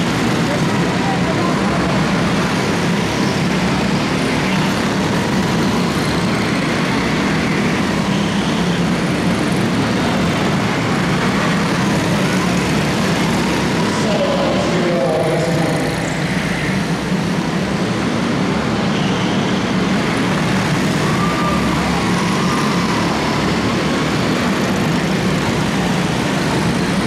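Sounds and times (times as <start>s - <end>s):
small race car engines droning: 0.0s - 27.0s.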